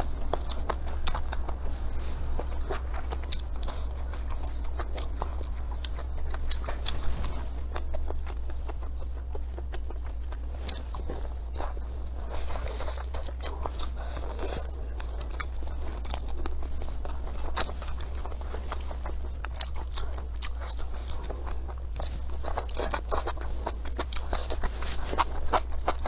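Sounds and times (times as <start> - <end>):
crunchy food being chewed: 0.0 - 26.0
steady low hum: 0.0 - 26.0.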